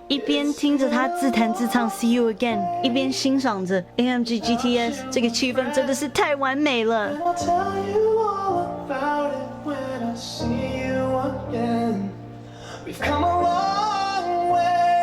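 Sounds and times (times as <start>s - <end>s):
man singing pop ballad: 0.0s - 3.2s, 4.4s - 6.4s, 7.0s - 15.0s
piano accompaniment: 0.0s - 15.0s.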